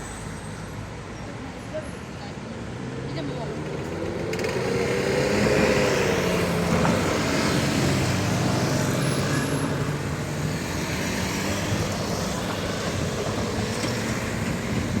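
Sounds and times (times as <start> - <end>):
traffic noise: 0.0 - 15.0
vehicle engines humming: 0.0 - 15.0.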